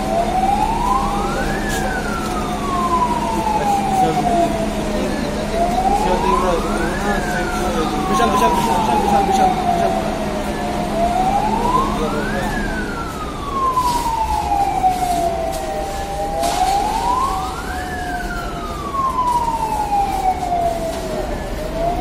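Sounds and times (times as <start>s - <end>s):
crowd and street noise: 0.0s - 22.0s
fire engine siren wailing: 0.0s - 22.0s
lower siren tone: 0.0s - 22.0s.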